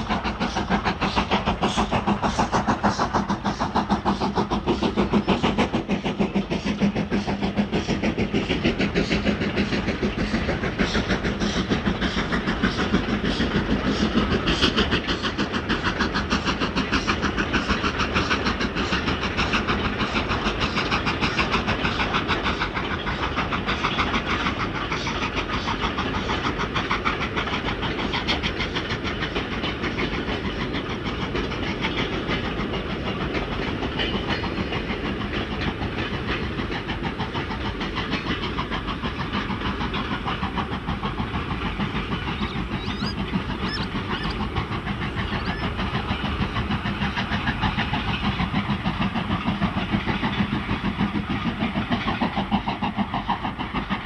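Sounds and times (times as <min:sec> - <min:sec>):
train clattering: 0:00.0 - 0:54.0.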